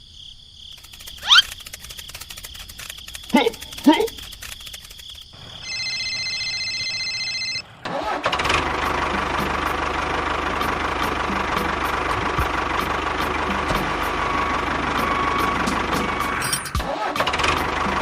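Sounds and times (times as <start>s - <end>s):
small engine running: 0.8s - 18.0s.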